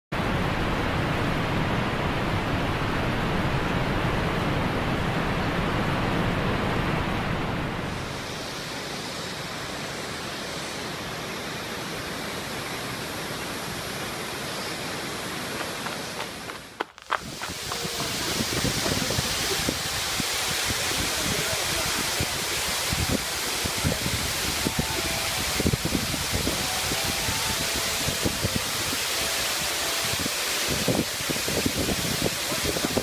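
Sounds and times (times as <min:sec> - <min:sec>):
waterfall rushing: 0:00.2 - 0:33.0.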